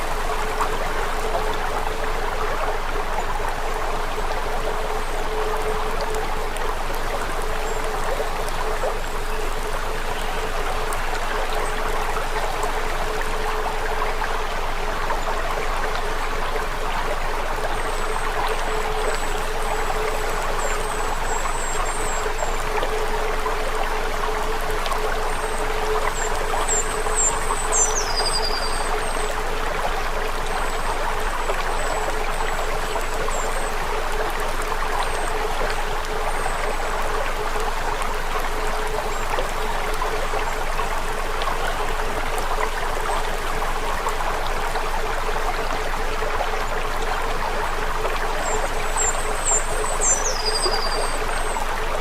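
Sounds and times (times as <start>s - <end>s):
low steady hum: 0.0s - 52.0s
running water: 0.0s - 52.0s.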